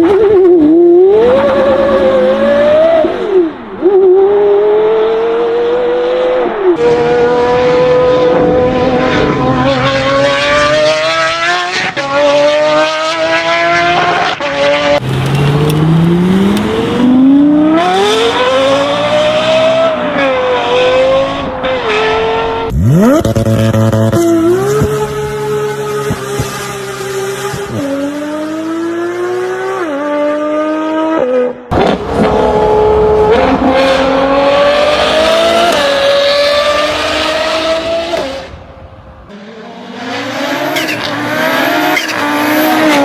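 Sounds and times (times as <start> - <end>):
car engines revving hard: 0.0 - 43.0.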